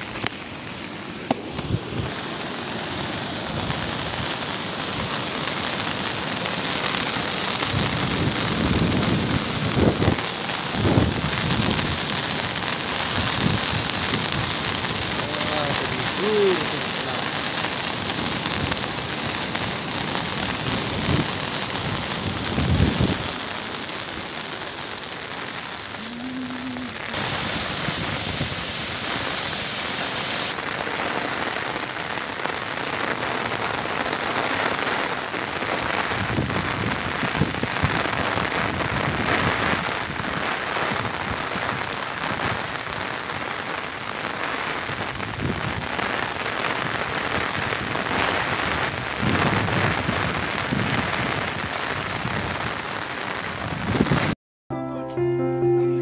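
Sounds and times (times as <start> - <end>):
heavy rain falling: 0.0 - 54.4.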